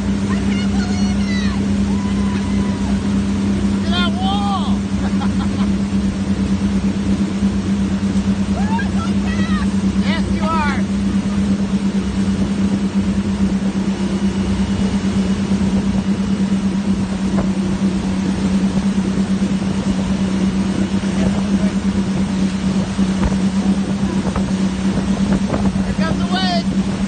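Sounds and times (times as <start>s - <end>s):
motorboat engine humming: 0.0s - 27.0s
rushing water noise: 0.0s - 27.0s.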